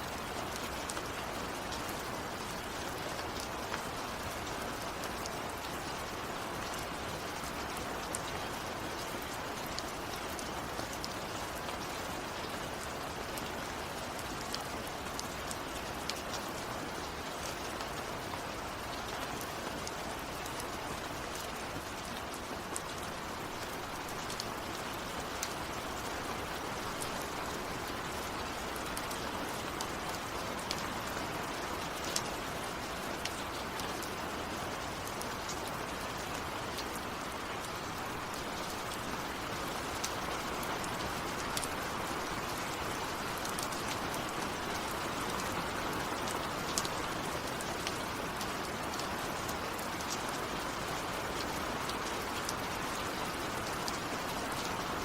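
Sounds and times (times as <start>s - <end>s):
rain hissing on a surface: 0.0s - 55.0s.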